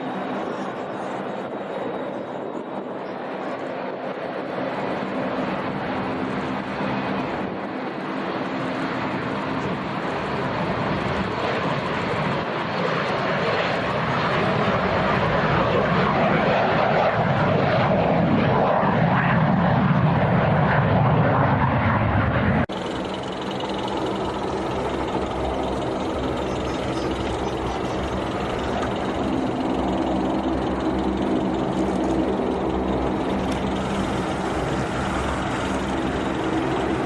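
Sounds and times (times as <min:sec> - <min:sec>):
airplane engines: 0:00.0 - 0:37.0.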